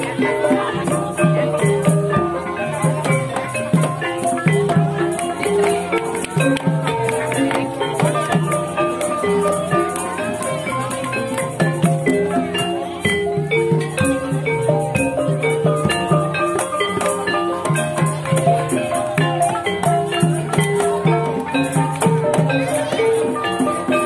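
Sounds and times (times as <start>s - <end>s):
gongs and metallophones ringing: 0.0s - 24.0s
hand drum strokes: 0.0s - 24.0s.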